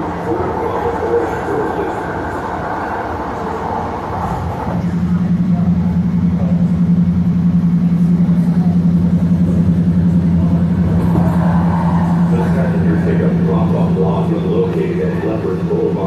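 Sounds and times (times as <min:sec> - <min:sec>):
low hum with rapid pulse: 0:00.0 - 0:16.0
train car rumbling: 0:00.0 - 0:16.0.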